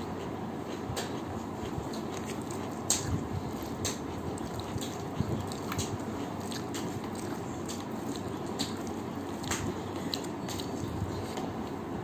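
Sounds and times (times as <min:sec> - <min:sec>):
chewing with wet smacks: 0:00.0 - 0:11.9.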